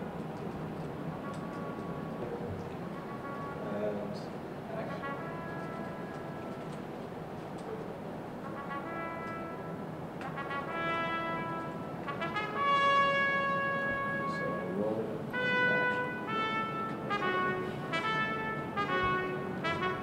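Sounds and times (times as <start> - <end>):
brass instrument melody: 1.1 - 4.1, 4.7 - 6.9, 8.4 - 20.0.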